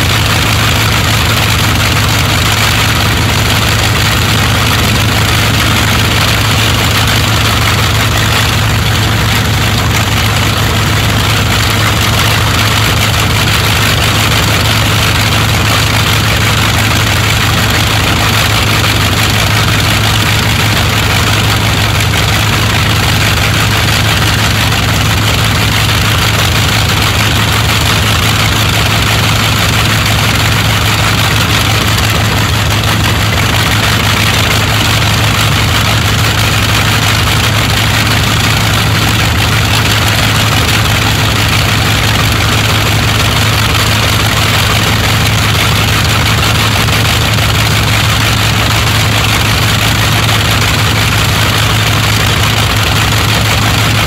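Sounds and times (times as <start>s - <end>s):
aero engines idling: 0.0s - 54.0s.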